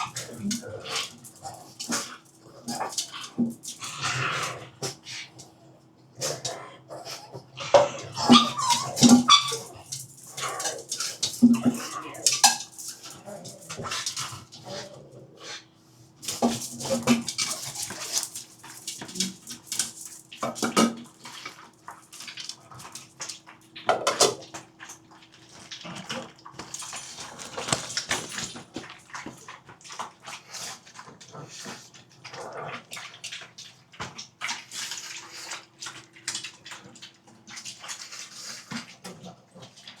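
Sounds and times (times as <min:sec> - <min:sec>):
dogs eating from bowls: 0:00.0 - 0:40.0.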